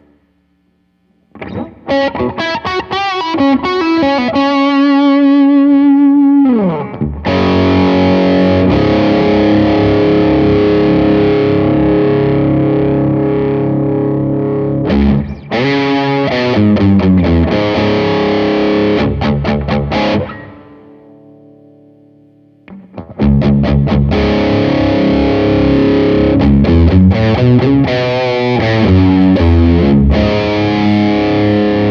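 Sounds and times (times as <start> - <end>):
distorted electric guitar: 0.0 - 31.9.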